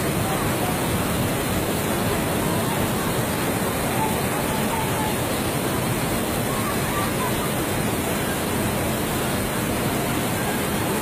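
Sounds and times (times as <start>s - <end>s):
floodwater rushing: 0.0s - 11.0s
heavy rain: 0.0s - 11.0s.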